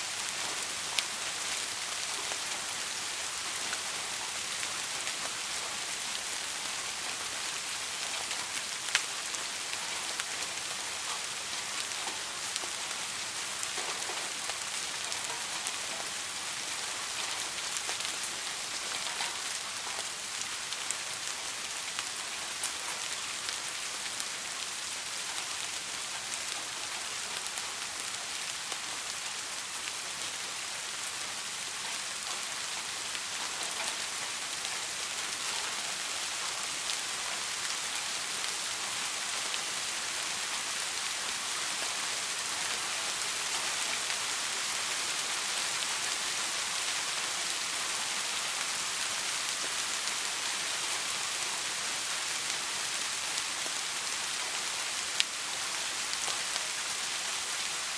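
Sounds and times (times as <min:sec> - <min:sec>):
soft rain falling: 0:00.0 - 0:57.9.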